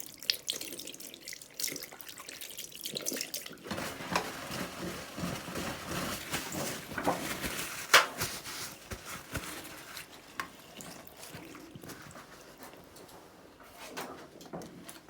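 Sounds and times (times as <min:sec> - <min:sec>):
water splashing at a sink: 0:00.0 - 0:12.6.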